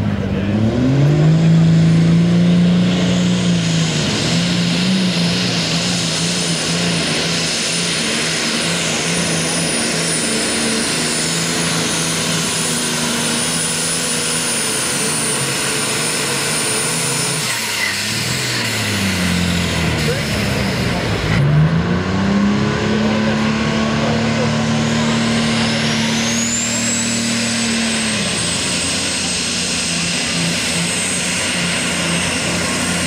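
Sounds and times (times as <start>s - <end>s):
diesel engine running hard: 0.0s - 33.0s.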